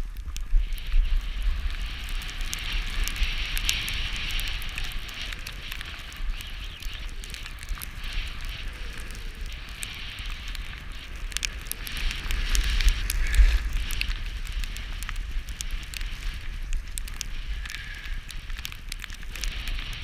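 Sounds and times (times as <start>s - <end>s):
crackles and clicks: 0.0s - 20.0s
skis scraping over snow: 0.0s - 20.0s
wind buffeting microphone: 0.0s - 20.0s.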